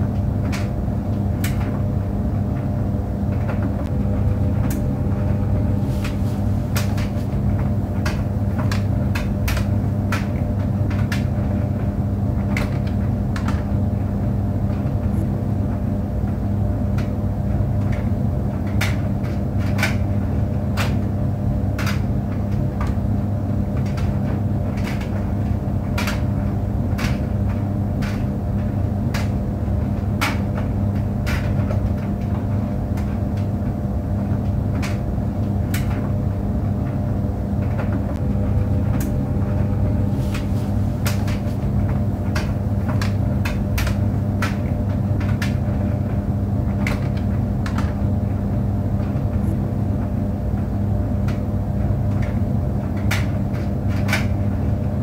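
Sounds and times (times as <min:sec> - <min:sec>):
clicks and knocks in dryer: 0:00.0 - 0:55.0
clothes dryer humming: 0:00.0 - 0:55.0.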